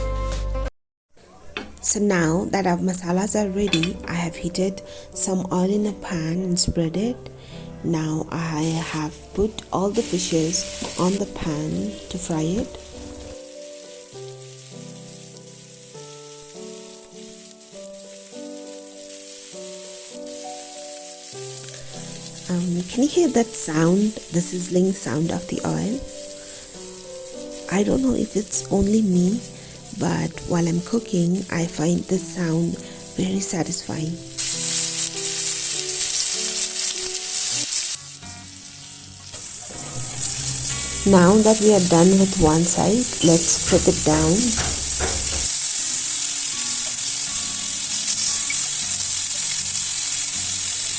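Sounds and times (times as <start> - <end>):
fish sizzling in hot oil: 3.0 - 6.3, 6.9 - 50.9.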